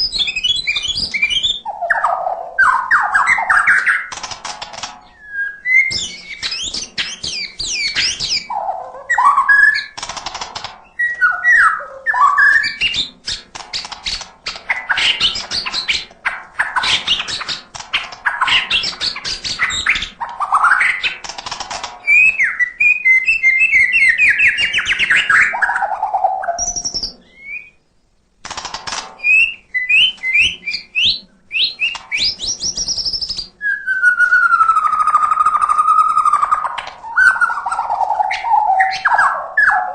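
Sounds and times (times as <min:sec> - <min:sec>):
bird singing varied song: 0:00.0 - 0:28.1, 0:29.2 - 0:39.9.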